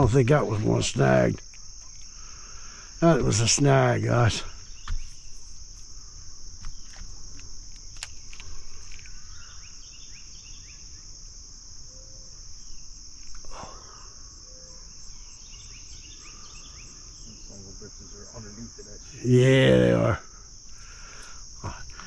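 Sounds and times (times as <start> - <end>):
insect chorus trilling: 0.0 - 22.0
faint chirps: 1.1 - 11.2, 11.8 - 22.0.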